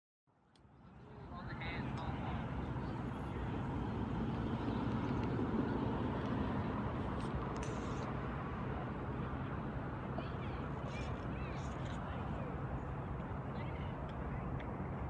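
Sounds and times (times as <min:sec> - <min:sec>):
rumble of cars: 0:00.4 - 0:15.0.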